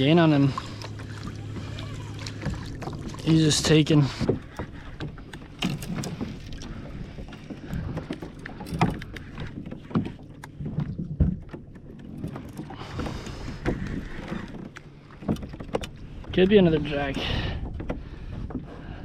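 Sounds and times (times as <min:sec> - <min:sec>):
water splashing: 0:00.0 - 0:17.5.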